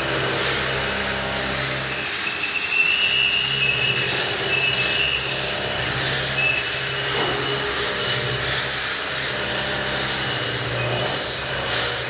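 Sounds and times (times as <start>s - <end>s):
high machine whine: 0.0s - 12.0s
machine hum: 0.0s - 12.0s
workshop noise: 0.0s - 12.0s.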